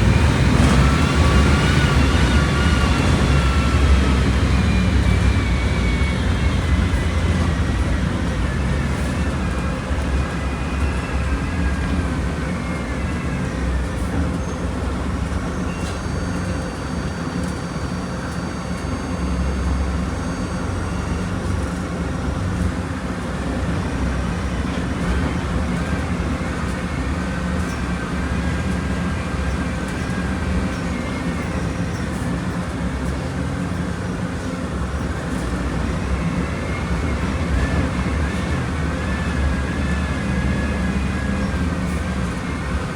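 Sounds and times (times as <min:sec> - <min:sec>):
bus engine droning: 0:00.0 - 0:42.9.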